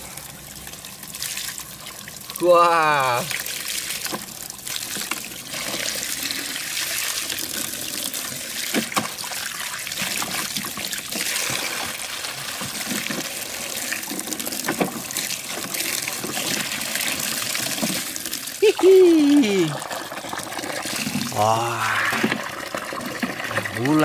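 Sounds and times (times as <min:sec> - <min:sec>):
water pouring and splashing: 0:00.0 - 0:24.0.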